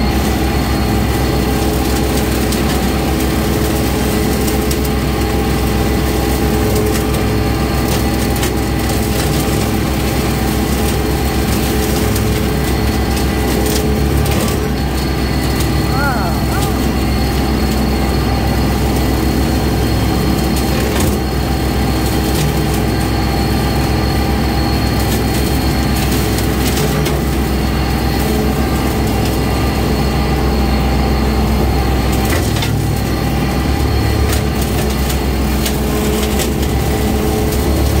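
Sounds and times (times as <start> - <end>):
brush hog cutting brush: 0.0 - 38.0
tractor diesel engine running: 0.0 - 38.0.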